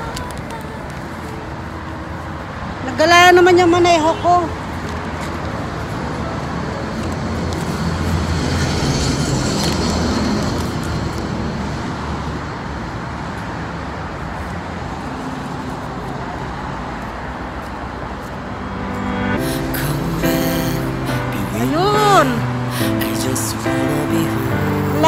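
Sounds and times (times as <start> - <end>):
passing cars rumble: 0.0 - 25.0.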